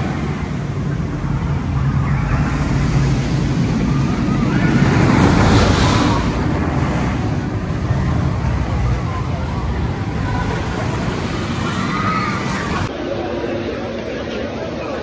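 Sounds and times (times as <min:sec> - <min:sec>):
roller coaster train roaring: 0:00.0 - 0:15.0.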